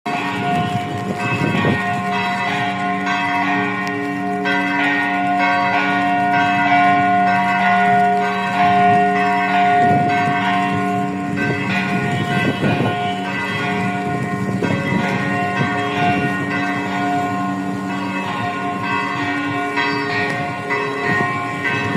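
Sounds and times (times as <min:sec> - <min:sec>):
church bells ringing together: 0:00.1 - 0:21.9.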